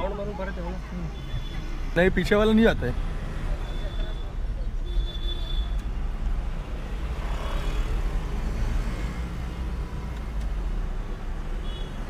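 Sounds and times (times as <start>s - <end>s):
diesel car engine rumble: 0.0s - 11.6s
road noise: 0.0s - 12.0s.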